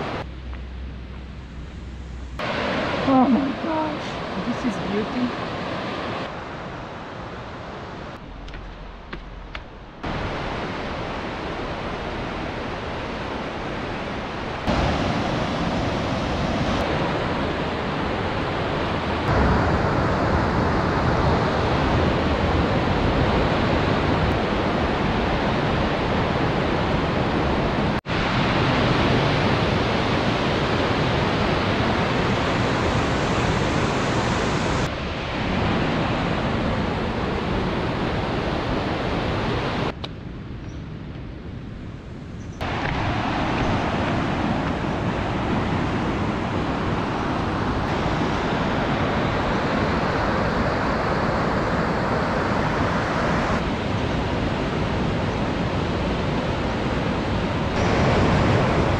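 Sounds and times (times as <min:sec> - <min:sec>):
white water rushing: 0:00.0 - 0:39.9, 0:42.6 - 0:58.9.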